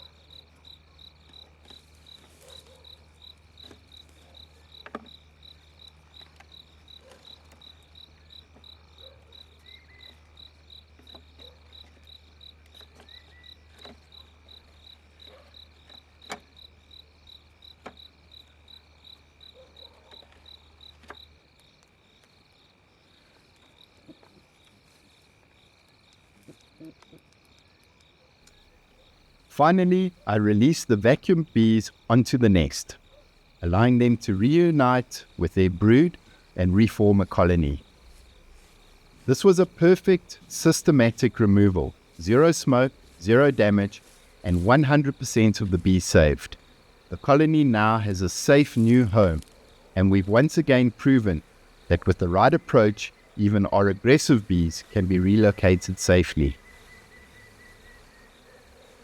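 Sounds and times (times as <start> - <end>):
crickets chirping: 0.0 - 59.0
high insect trill: 0.0 - 59.0.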